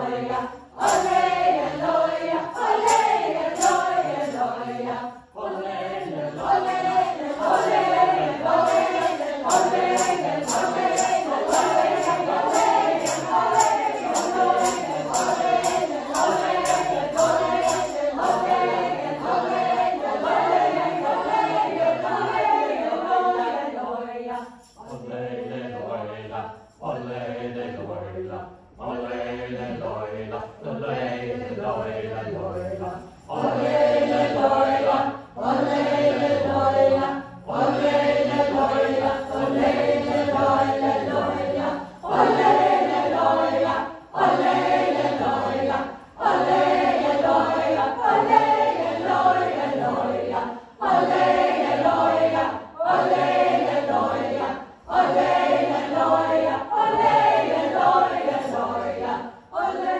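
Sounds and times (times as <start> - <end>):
choir singing repetitive chant: 0.0 - 59.9.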